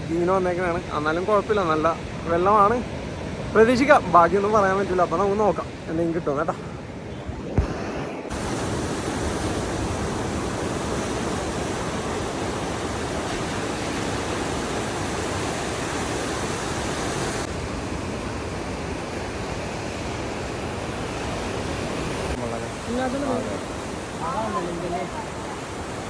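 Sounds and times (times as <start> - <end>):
sea: 0.0 - 26.0
wind: 0.0 - 26.0.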